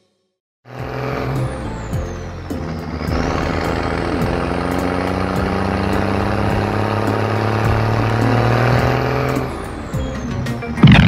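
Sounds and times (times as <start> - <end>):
truck engine drone: 0.6 - 11.0.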